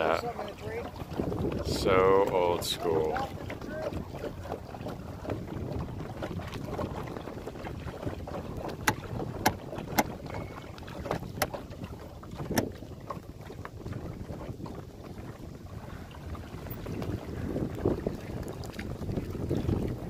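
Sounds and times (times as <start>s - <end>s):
water washing against boat: 0.0s - 20.0s
wind rumbling on microphone: 0.0s - 20.0s.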